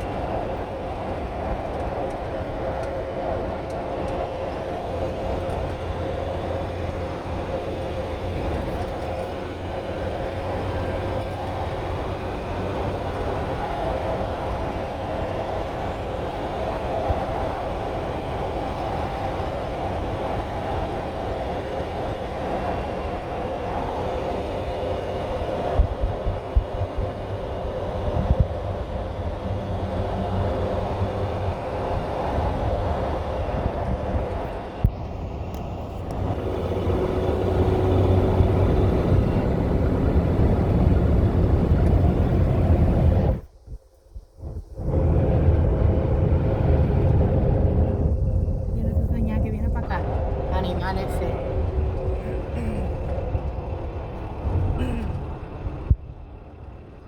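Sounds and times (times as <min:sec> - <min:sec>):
engine and road noise: 0:00.0 - 0:57.0.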